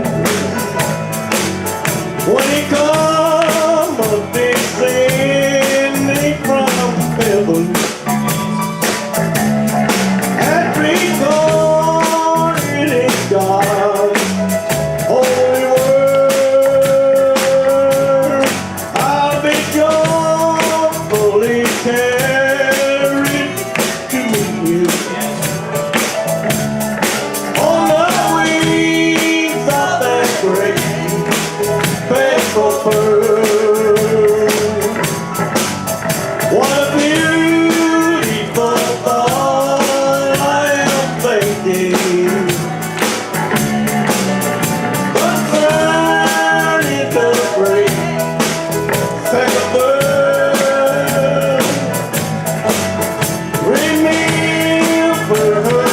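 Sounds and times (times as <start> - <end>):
man singing gospel: 0.0 - 35.4, 36.1 - 55.9
instrumental accompaniment with beat: 0.0 - 55.9.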